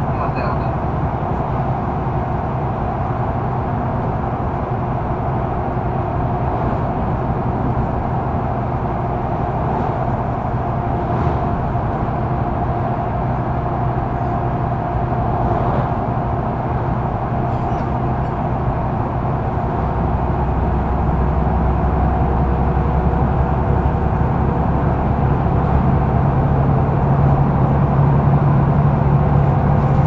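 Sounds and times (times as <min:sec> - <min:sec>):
bus interior engine and road drone: 0:00.0 - 0:30.0.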